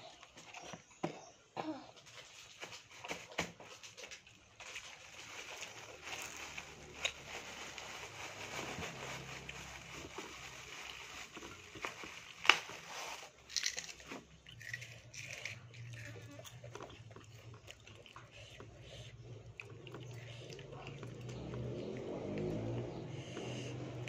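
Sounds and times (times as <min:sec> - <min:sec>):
crunching fried insects: 0:03.7 - 0:24.0.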